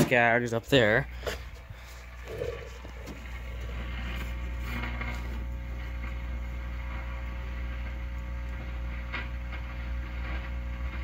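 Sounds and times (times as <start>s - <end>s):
radio mains hum: 0.0s - 11.0s.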